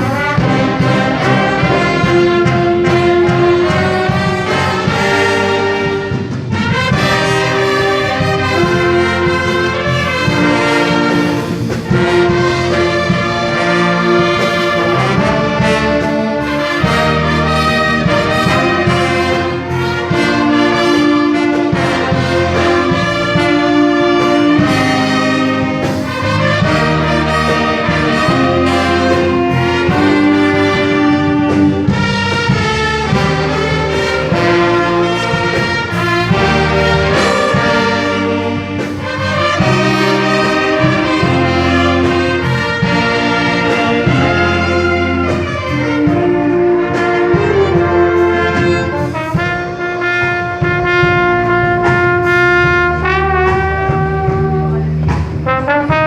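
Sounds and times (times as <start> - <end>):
orchestra playing a hymn: 0.0 - 56.0
trumpets and trombones: 0.0 - 56.0.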